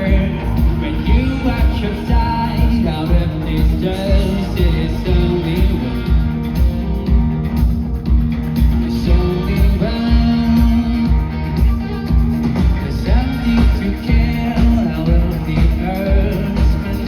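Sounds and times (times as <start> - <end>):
person singing: 0.0 - 6.4, 8.8 - 17.0
guitars: 0.0 - 17.0
steady drum beat: 0.0 - 17.0.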